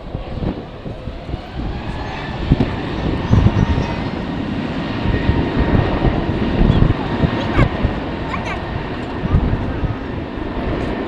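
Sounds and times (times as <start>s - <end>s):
jet engines running: 0.0s - 11.0s
wind buffeting microphone: 0.0s - 11.0s.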